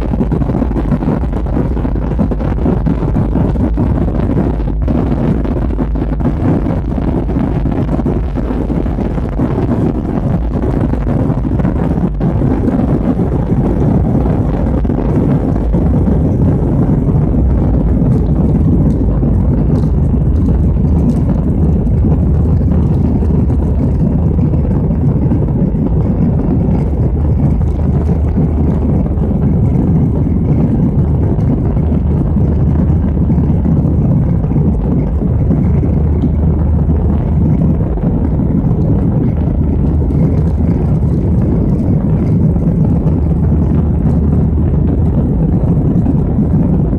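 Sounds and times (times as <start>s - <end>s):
jet engines deep rumble: 0.0s - 46.9s
rush of air: 0.0s - 46.9s.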